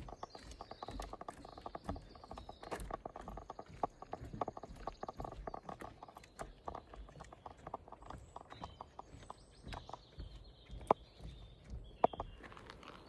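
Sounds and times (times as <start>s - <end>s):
footsteps on dirt trail: 0.0s - 13.0s.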